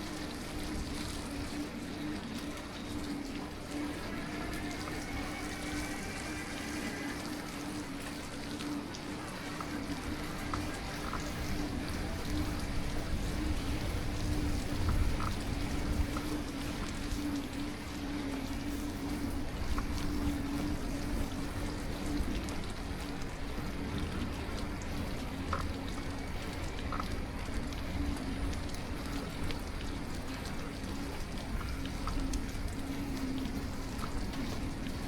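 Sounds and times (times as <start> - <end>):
bicycle tyres on wet road: 0.0 - 35.0
faint ticks: 0.0 - 35.0
light rain: 0.0 - 35.0
wind: 0.0 - 35.0.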